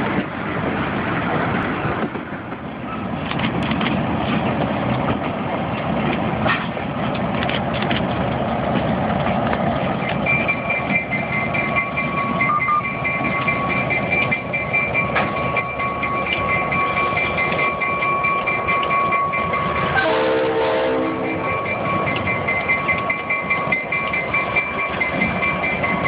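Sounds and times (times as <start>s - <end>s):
freight train rumbling: 0.0s - 26.0s.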